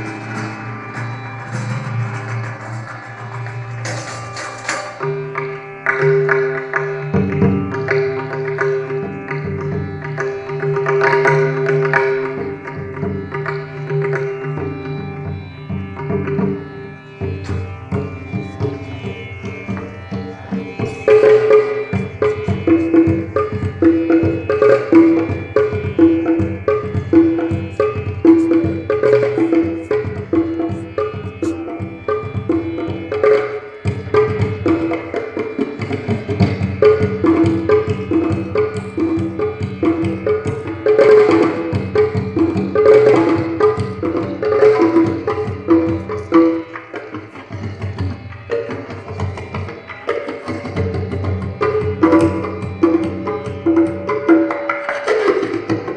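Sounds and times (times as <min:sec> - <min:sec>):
repeating melodic accompaniment: 0:00.0 - 0:55.9
tabla galloping pattern: 0:00.0 - 0:55.9.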